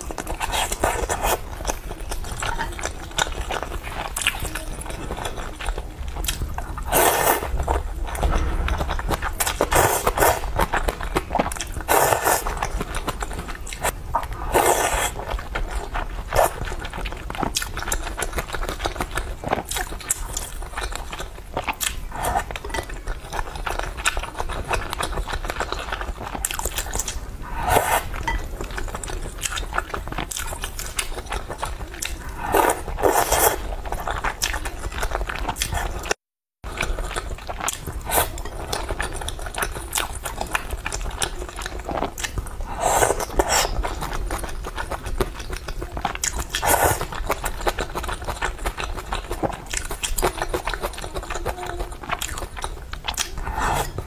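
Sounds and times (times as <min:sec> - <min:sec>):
chewing and biting soft food: 0:00.0 - 0:54.0.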